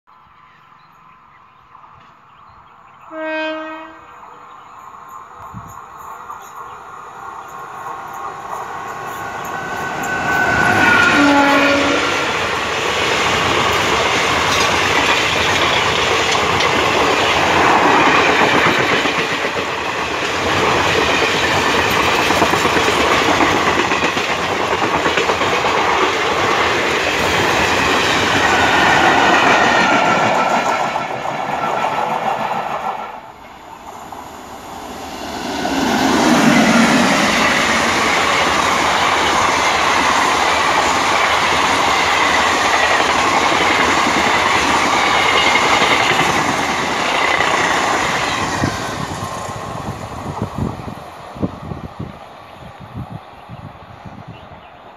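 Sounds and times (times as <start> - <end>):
train rushing past: 3.1 - 54.3.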